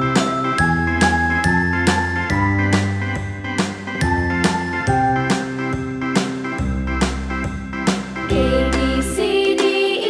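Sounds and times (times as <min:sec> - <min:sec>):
upbeat plucked guitar music: 0:00.0 - 0:09.3.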